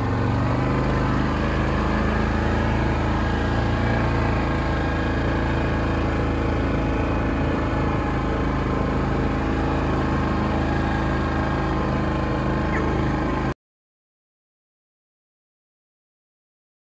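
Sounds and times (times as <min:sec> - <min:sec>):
quad bike engine running: 0:00.0 - 0:13.6.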